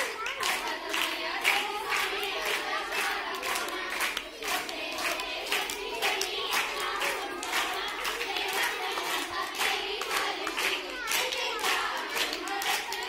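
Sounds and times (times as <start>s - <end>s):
hands clapping in rhythm: 0.0s - 13.0s
women singing together: 0.4s - 13.0s.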